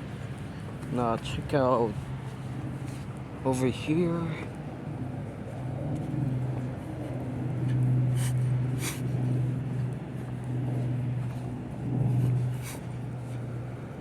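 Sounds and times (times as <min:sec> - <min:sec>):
construction machinery engine humming: 0:00.0 - 0:14.0.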